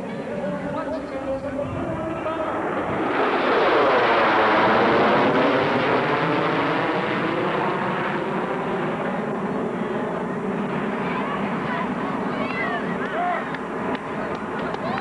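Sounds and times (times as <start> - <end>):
airplane passing overhead: 0.0 - 15.0.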